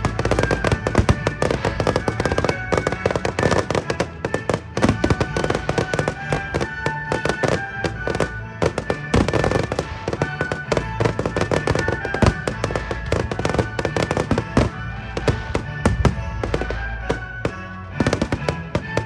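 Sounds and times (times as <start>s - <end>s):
fireworks bangs and crackles: 0.0s - 19.0s
music playing: 0.0s - 19.0s.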